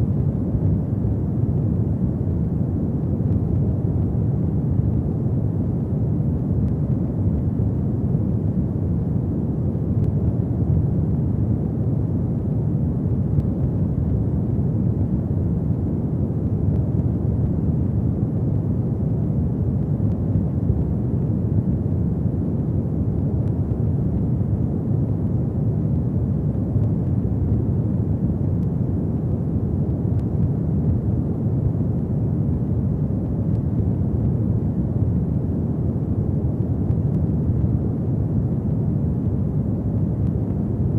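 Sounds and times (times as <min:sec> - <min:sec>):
faint fire crackles: 0:00.0 - 0:40.9.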